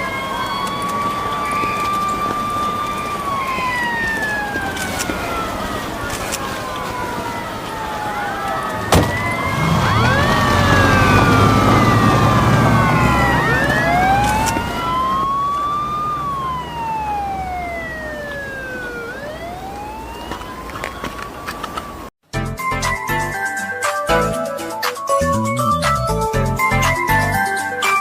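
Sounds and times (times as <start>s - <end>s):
police sirens wailing: 0.0s - 22.1s, 23.2s - 28.0s.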